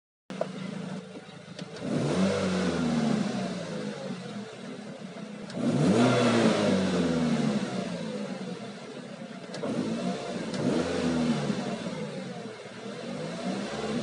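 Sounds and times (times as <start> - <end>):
car engine idling and revving: 0.3 - 14.0.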